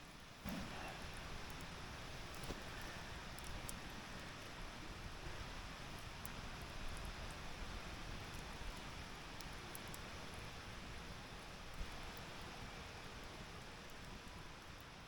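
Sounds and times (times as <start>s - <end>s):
campfire hissing: 0.0s - 15.0s
fire crackles and pops: 0.0s - 15.0s.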